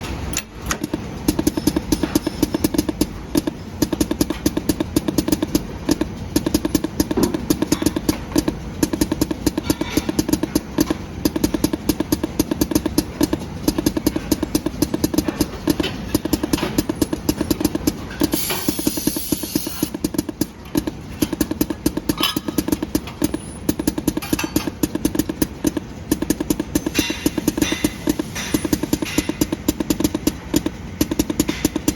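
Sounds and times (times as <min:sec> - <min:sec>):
machine clattering: 0:00.0 - 0:31.9
air hissing: 0:00.8 - 0:21.7, 0:24.8 - 0:31.9.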